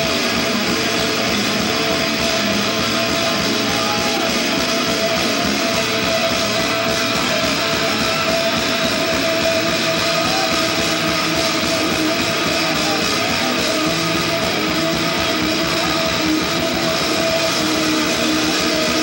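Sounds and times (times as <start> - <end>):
distorted electric guitars: 0.0 - 19.0
live rock band playing: 0.0 - 19.0.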